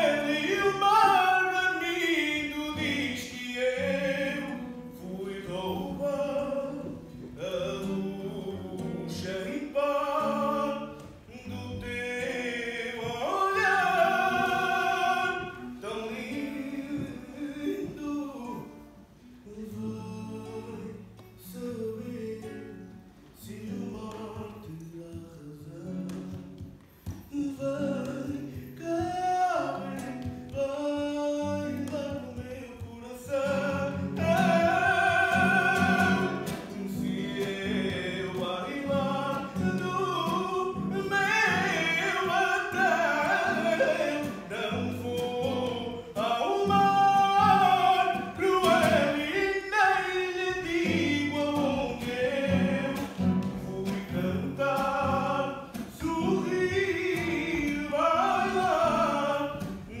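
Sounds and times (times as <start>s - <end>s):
man singing: 0.0s - 60.0s
strummed acoustic guitar: 0.0s - 60.0s.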